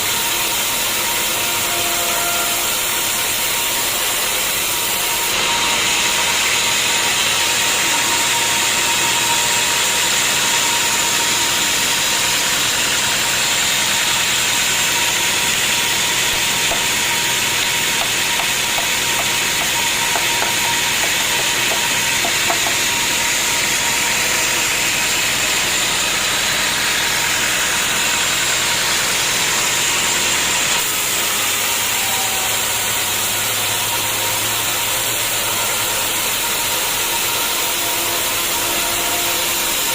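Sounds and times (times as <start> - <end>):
sawmill machinery hissing and whining: 0.0 - 39.9.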